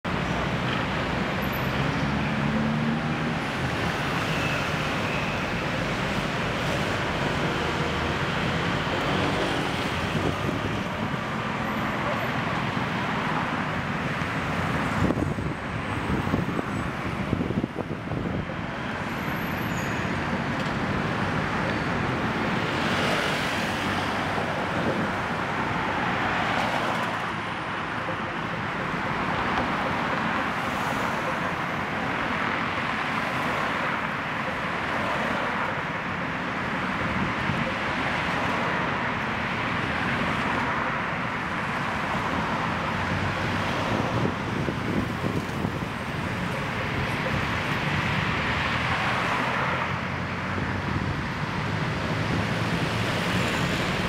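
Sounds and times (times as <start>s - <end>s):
road traffic engine and tyre noise: 0.0s - 54.0s.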